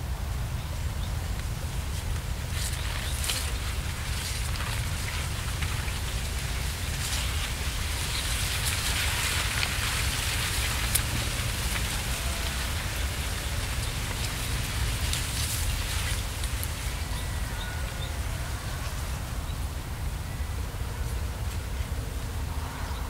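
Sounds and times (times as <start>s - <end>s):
wind rumble on microphone: 0.0s - 23.0s
wind rustling foliage: 0.0s - 23.0s.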